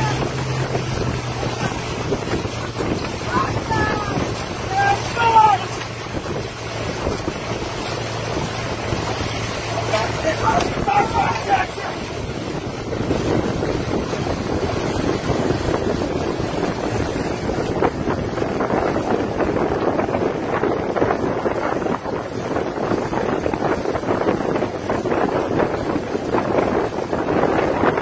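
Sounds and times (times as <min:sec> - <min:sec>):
water churning past boat: 0:00.0 - 0:28.0
wind buffeting microphone: 0:00.0 - 0:28.0.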